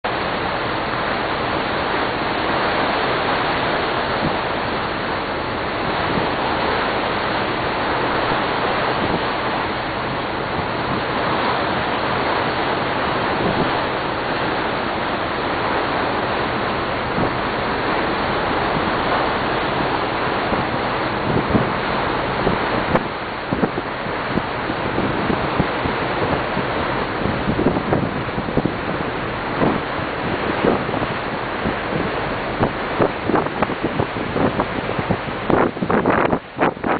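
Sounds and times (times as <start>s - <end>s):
rush of wind and water: 0.0s - 36.9s
wind buffeting microphone: 0.1s - 36.9s.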